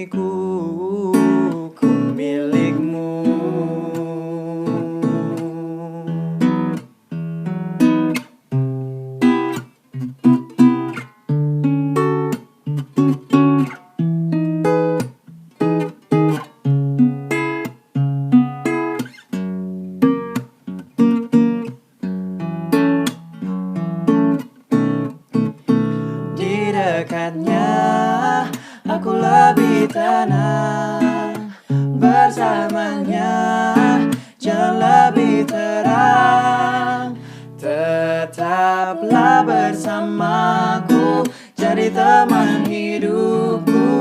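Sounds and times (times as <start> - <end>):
acoustic guitar playing: 0.0 - 44.0.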